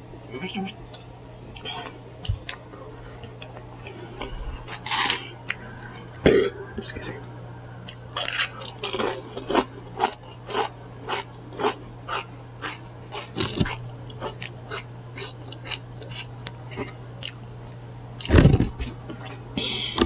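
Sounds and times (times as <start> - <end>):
crunchy food being chewed: 0.9 - 6.2, 7.8 - 19.4.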